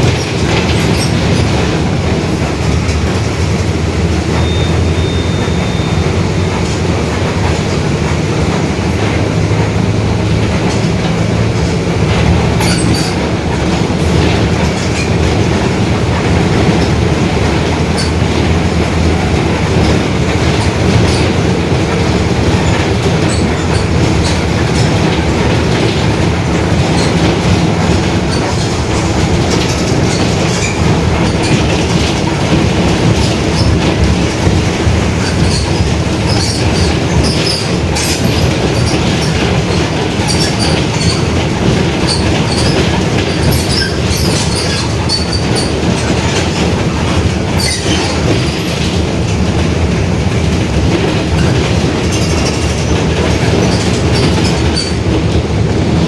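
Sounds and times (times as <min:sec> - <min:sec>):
body clicking and rattling: 0:00.0 - 0:56.0
bus diesel engine drone: 0:00.0 - 0:56.0.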